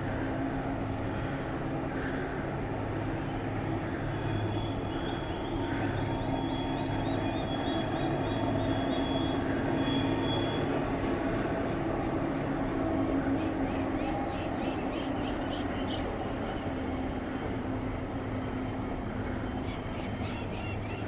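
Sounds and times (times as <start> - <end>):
locomotive engine drone: 0.0 - 21.0.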